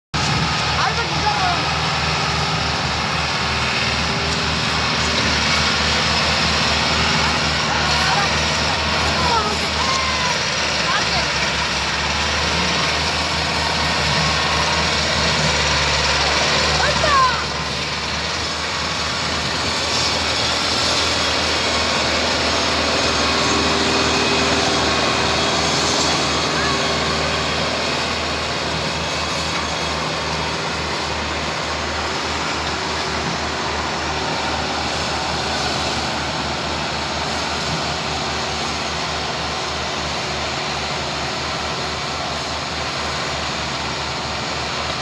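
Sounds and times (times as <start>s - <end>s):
tractor engine running: 0.1s - 45.0s.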